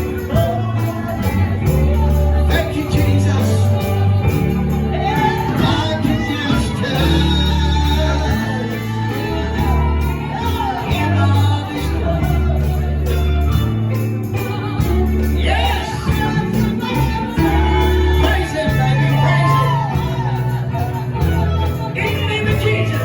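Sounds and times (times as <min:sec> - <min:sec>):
band with bass notes: 0:00.0 - 0:23.0
jingling tambourine: 0:00.0 - 0:23.0
voices singing gospel: 0:00.0 - 0:23.0.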